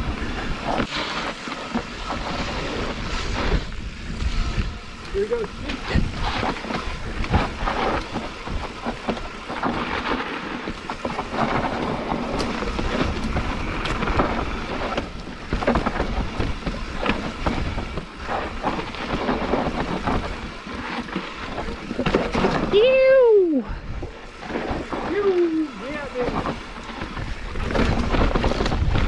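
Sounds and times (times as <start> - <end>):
bike rattling over bumps: 0.0 - 29.0
bike tyres rolling over dirt: 0.0 - 29.0
wind on microphone: 0.0 - 29.0.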